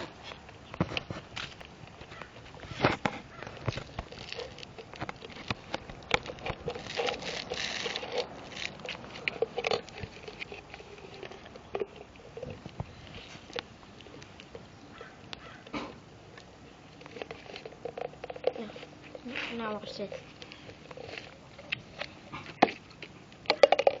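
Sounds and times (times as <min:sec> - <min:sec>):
puppy clicking and smacking: 0:00.3 - 0:24.0.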